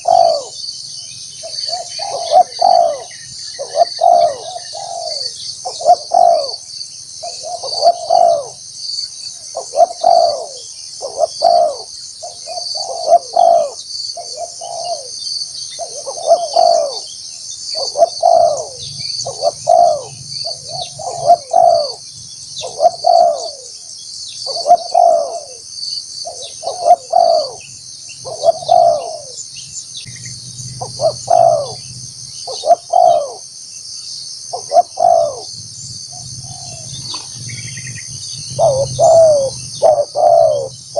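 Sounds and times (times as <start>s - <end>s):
dove cooing: 0.0s - 0.6s, 1.4s - 8.6s, 9.4s - 29.5s, 30.1s - 33.5s, 34.5s - 40.9s.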